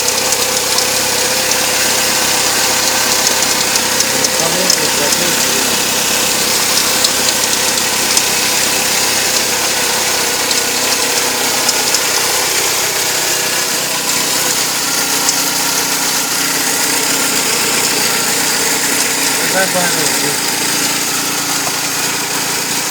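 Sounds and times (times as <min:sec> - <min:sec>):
sharp clicks: 0:00.0 - 0:22.0
car engine idling: 0:00.0 - 0:22.9.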